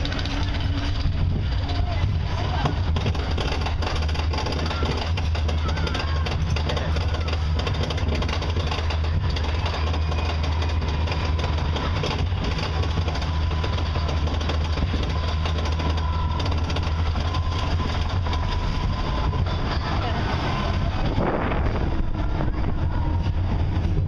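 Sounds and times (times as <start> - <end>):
rapid clicking from track: 0.0 - 21.2
chain lift mechanical drone: 0.0 - 24.0.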